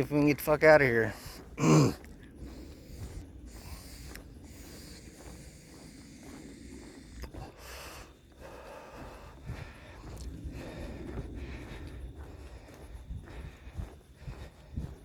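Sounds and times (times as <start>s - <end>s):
steady low rumble: 0.0s - 15.0s
person breathing while walking: 0.8s - 15.0s.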